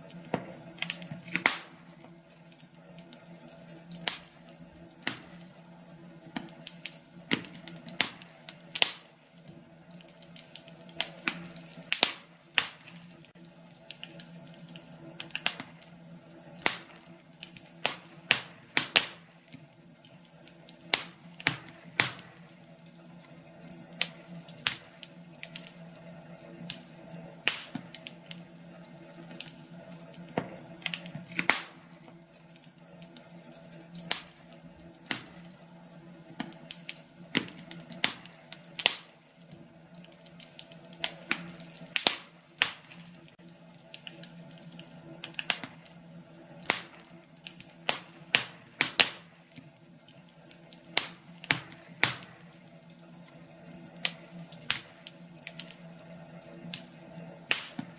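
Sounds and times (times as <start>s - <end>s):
firewood crackling: 0.0s - 57.9s.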